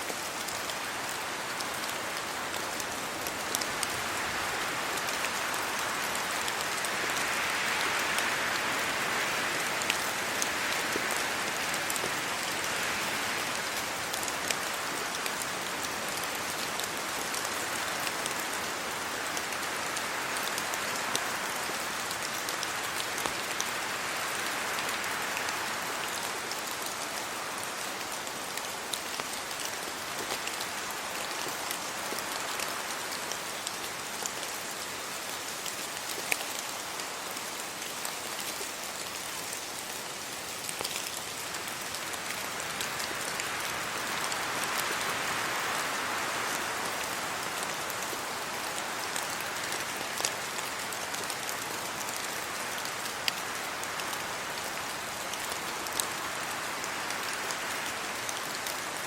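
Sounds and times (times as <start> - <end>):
rain falling on leaves: 0.0 - 59.0
wind gust through trees: 0.0 - 59.0.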